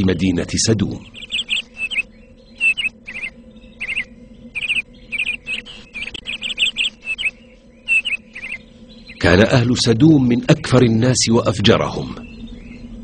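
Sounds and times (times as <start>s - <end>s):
faint steady hum: 0.0s - 13.0s
small birds chirping: 0.0s - 13.0s.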